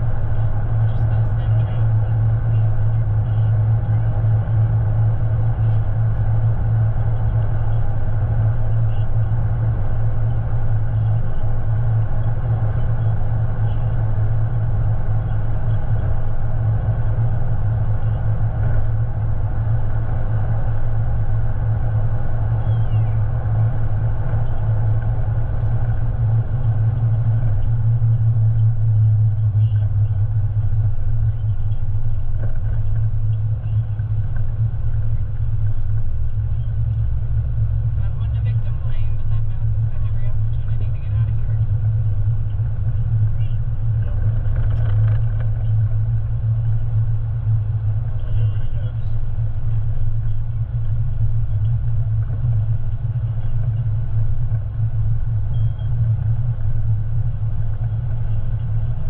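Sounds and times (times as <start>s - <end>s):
vehicle engine and tyre noise: 0.0s - 59.0s.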